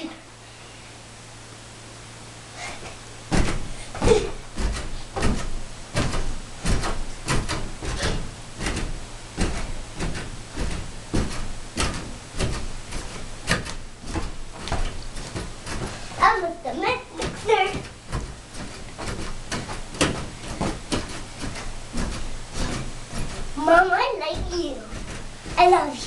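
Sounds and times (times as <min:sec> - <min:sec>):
feet thumping on couch: 0:02.6 - 0:26.0.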